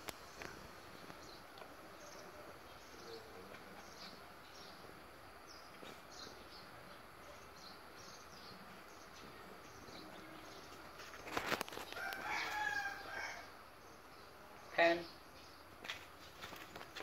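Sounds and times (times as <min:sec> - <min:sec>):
low ambient hiss: 0:00.0 - 0:17.0.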